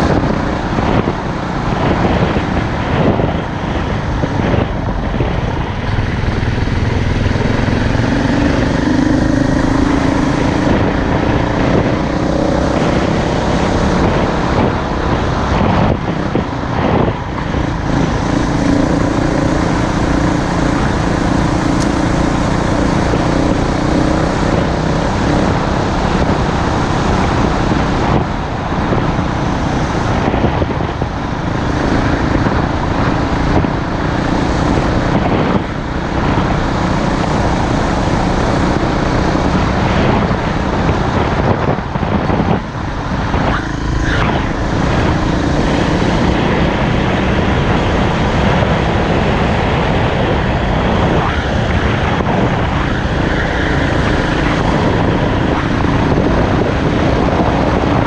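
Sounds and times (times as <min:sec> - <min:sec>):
off-road motorcycle engine: 0:00.0 - 0:58.0
steady rushing noise: 0:00.0 - 0:58.0.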